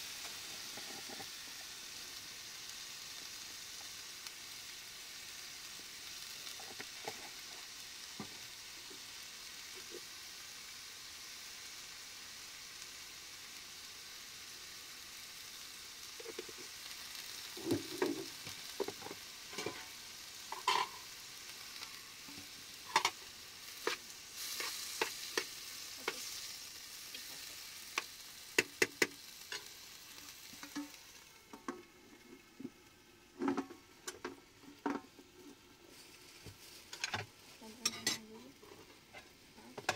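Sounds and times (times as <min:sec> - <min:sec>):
sizzling hiss: 0:00.0 - 0:39.9.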